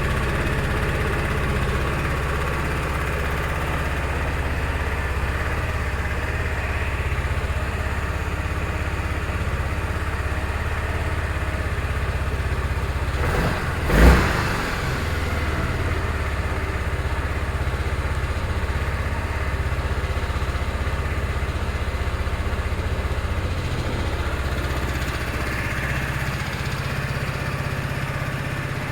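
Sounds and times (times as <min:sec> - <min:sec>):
scooter engine idling: 0:00.0 - 0:28.9.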